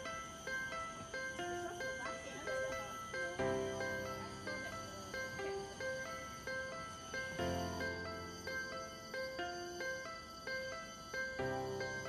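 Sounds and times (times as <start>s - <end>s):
bell-like background music: 0.0s - 12.0s.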